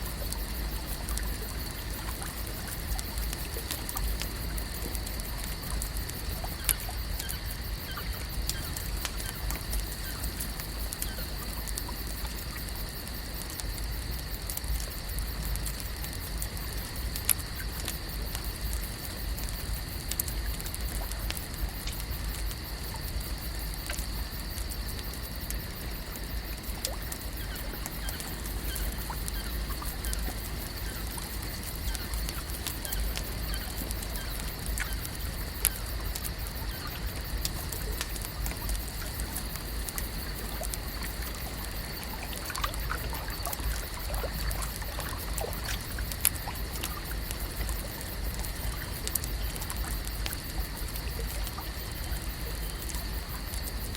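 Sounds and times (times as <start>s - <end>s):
light ticks and pattering: 0.0s - 53.9s.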